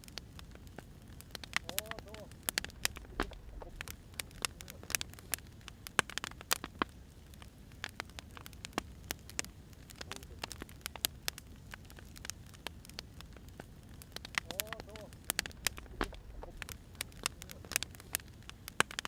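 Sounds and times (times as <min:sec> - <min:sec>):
low rumble of fire: 0:00.0 - 0:19.0
wood fire popping and snapping: 0:00.0 - 0:19.0.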